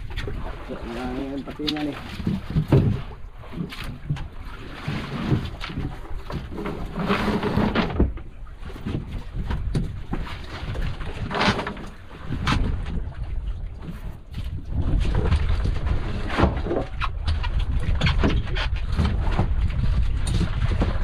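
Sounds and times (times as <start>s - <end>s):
water washing against boat: 0.0s - 21.0s
wind buffeting microphone: 0.0s - 21.0s.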